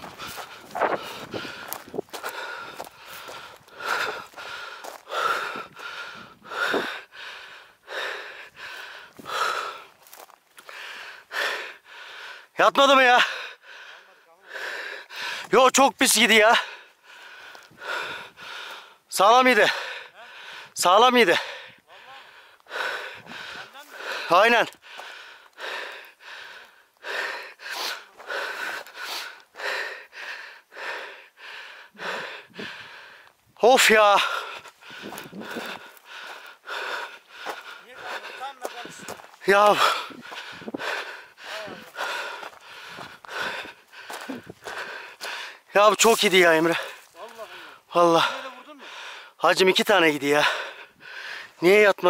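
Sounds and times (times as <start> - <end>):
person breathing hard: 0.0 - 12.6, 13.2 - 15.6, 16.4 - 33.4, 34.0 - 49.4, 50.2 - 51.6.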